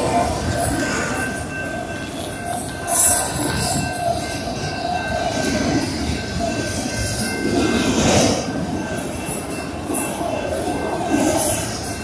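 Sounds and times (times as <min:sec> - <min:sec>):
freight train wheels on rails: 0:00.0 - 0:12.0.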